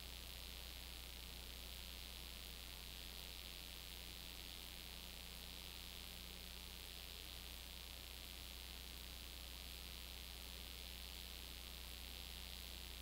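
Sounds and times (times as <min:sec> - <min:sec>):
low electrical hum: 0:00.0 - 0:13.0
steady hiss: 0:00.0 - 0:13.0.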